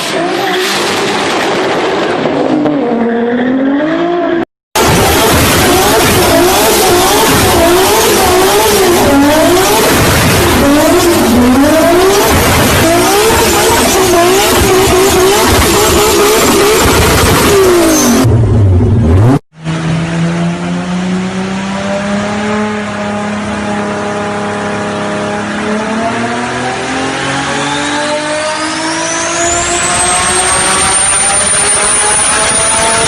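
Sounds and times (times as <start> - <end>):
car engine revving hard: 2.2 - 33.0.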